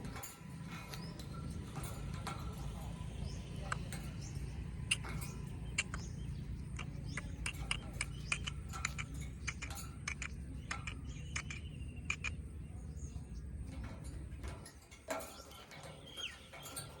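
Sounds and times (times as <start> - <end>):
low hum: 0.0 - 17.0
parakeets chirping and clicking: 0.0 - 17.0.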